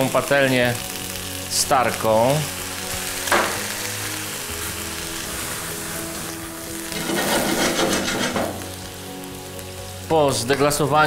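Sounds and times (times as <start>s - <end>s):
skillet sizzling: 0.0s - 11.0s.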